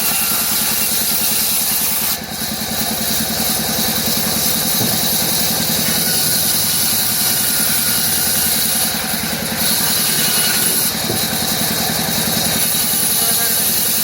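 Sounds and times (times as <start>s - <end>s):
wood router machine hum: 0.0s - 14.0s.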